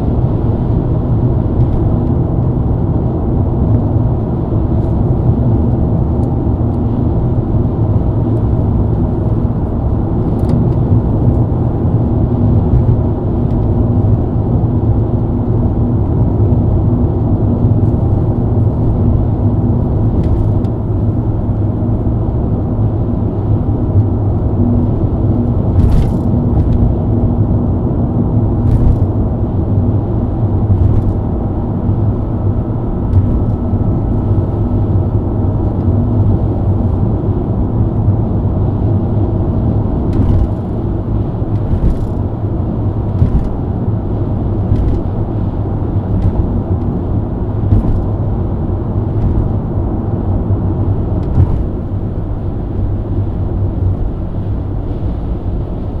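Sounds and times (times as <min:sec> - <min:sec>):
car engine drone: 0:00.0 - 0:56.0
tyre road noise: 0:00.0 - 0:56.0.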